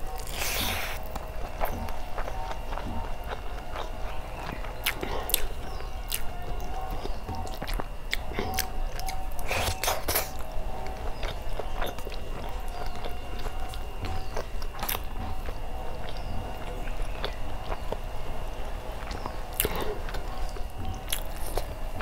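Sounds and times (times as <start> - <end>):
wet chewing: 0.0 - 22.0.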